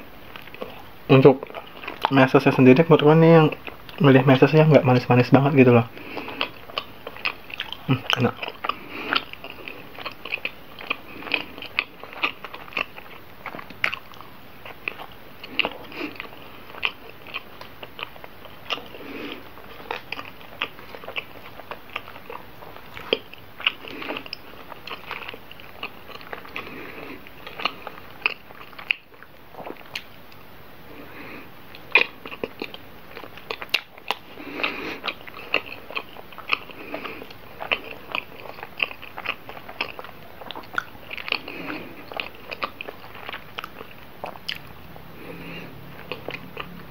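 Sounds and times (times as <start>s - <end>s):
chewing soft bread: 0.0s - 46.9s.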